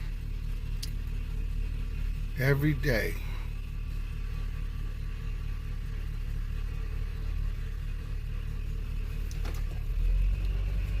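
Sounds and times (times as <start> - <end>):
car engine rumbling while driving: 0.0 - 11.0.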